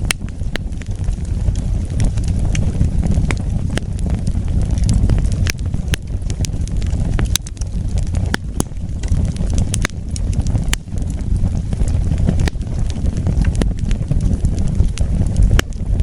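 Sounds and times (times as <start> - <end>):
fire crackling and popping: 0.0 - 16.0
flames rumbling: 0.0 - 16.0.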